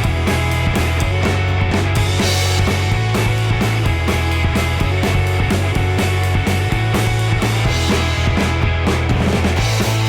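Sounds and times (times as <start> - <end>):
rock music with heavy bass: 0.0 - 10.0.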